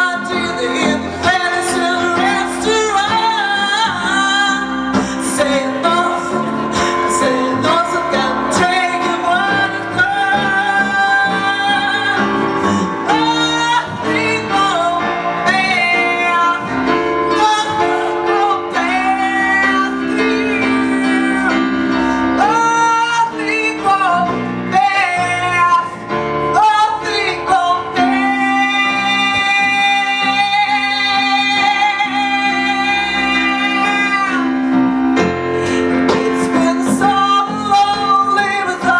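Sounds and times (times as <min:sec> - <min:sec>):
instrumental accompaniment: 0:00.0 - 0:38.9
woman singing: 0:00.0 - 0:38.9.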